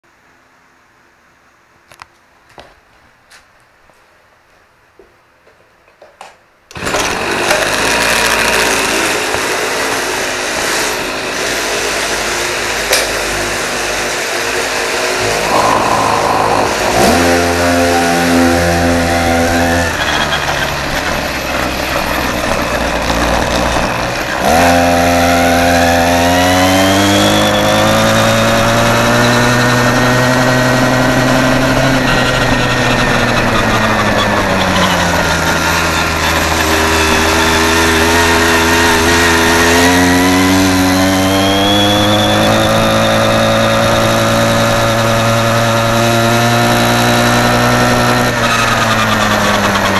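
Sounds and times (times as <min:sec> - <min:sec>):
scooter engine accelerating: 0:06.7 - 0:49.9.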